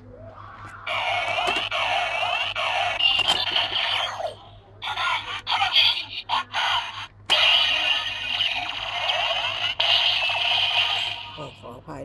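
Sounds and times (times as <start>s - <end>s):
toy electronic sound effects and music: 0.8s - 11.4s.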